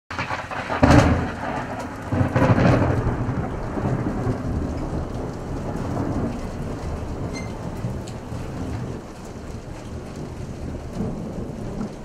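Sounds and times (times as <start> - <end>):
rain hissing: 0.1 - 12.0
thunder rumbling: 0.1 - 12.0.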